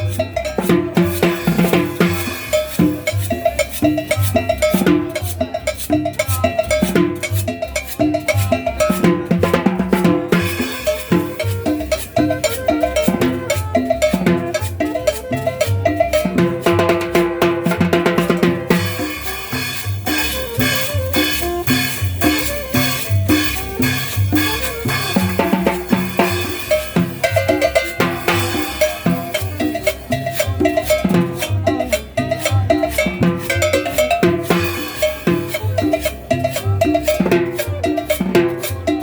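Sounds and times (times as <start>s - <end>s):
cowbell: 0.0s - 39.0s
latin dance music: 0.0s - 39.0s.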